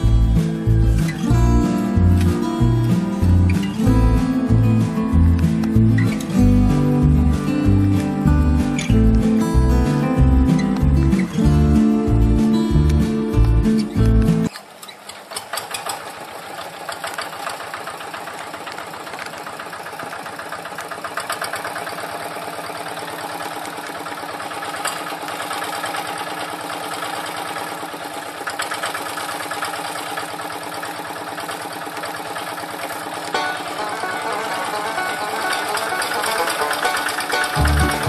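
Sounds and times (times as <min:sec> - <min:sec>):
diesel engine idling: 0:00.0 - 0:14.5, 0:16.0 - 0:38.0.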